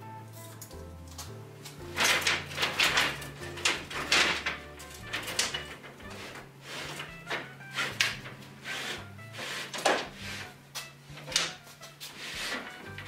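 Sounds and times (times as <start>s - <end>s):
background music: 0.0s - 13.0s
wooden boards scraping and knocking: 1.7s - 13.0s.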